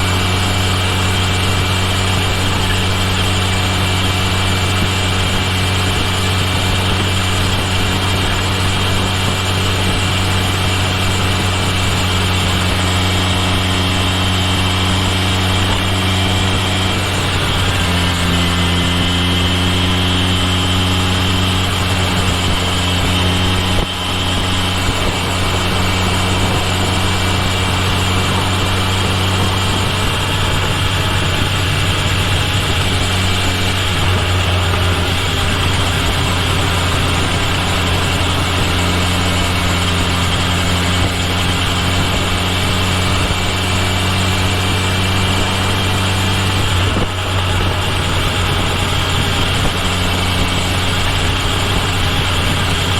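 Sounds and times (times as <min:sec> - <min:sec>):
motorcycle engine running: 0:00.0 - 0:52.9
wind and road noise: 0:00.0 - 0:52.9.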